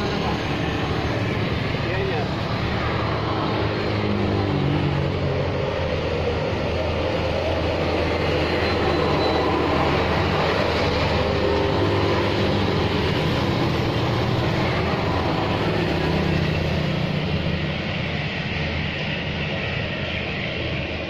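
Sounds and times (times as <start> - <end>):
scooter and lorry engines passing: 0.0 - 21.0
traffic roar: 0.0 - 21.0.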